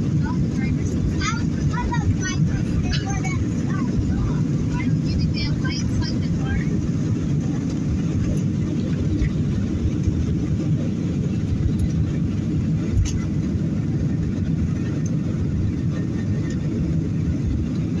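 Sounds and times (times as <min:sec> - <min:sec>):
jet engine cabin rumble: 0:00.0 - 0:18.0.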